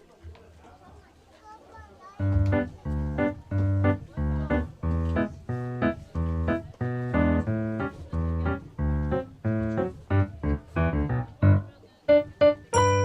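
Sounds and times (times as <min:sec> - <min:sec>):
keyboard tune: 0:02.2 - 0:13.0.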